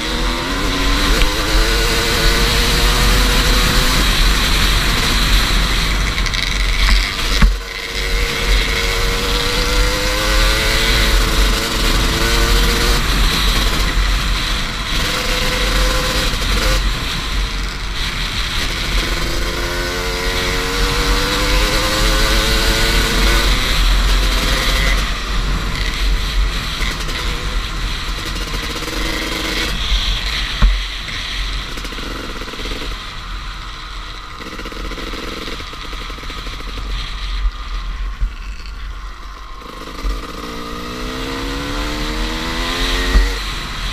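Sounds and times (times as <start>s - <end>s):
dirt bike engine revving: 0.0s - 38.8s, 39.4s - 43.9s.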